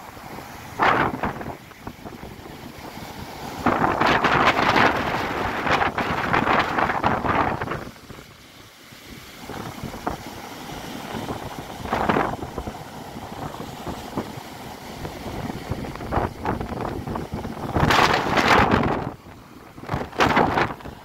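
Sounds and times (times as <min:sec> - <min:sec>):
wind buffeting microphone: 0:00.0 - 0:08.4, 0:09.1 - 0:21.0
surf breaking on shore: 0:00.0 - 0:21.0
wave bursting against sea wall: 0:00.0 - 0:21.0.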